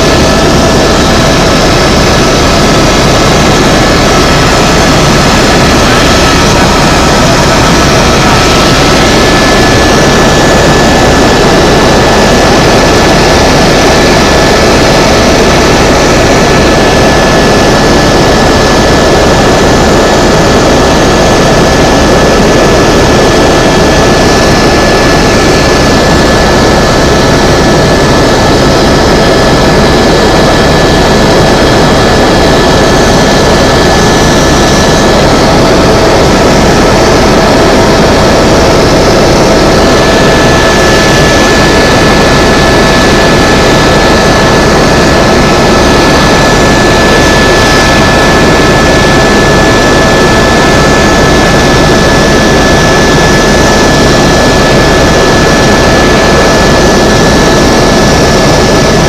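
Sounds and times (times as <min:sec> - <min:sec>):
helicopter engine and rotor: 0:00.0 - 0:59.0
thin steady whine: 0:00.0 - 0:59.0.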